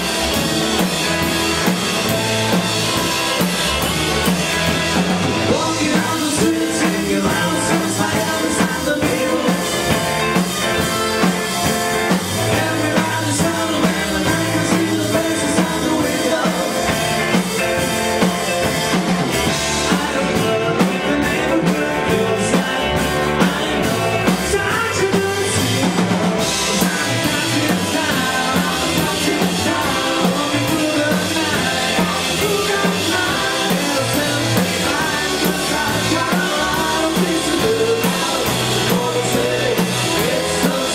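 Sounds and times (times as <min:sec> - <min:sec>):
rock band playing: 0:00.0 - 0:40.9
lead vocal singing: 0:04.8 - 0:17.9, 0:19.4 - 0:40.9.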